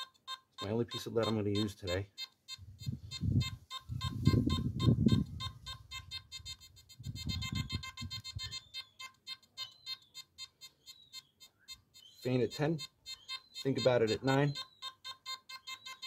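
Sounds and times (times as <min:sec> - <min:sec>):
metal detector beeping: 0:00.0 - 0:16.0.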